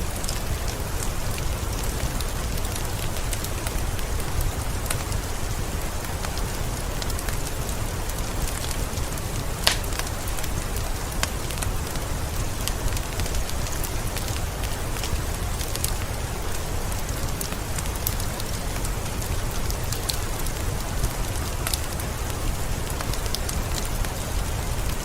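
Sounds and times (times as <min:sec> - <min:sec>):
steady rain: 0:00.0 - 0:25.0
wood fire crackling and popping: 0:00.0 - 0:25.0.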